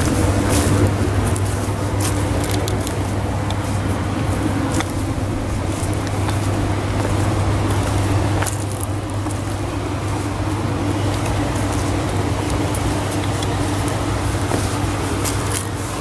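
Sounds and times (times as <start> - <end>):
river flowing over stones: 0.2 - 16.0.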